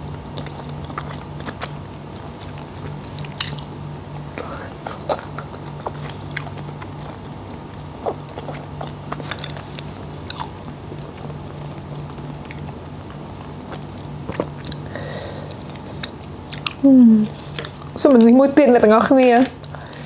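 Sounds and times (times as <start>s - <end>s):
close chewing: 0.0s - 20.0s
low steady hum: 0.0s - 20.0s.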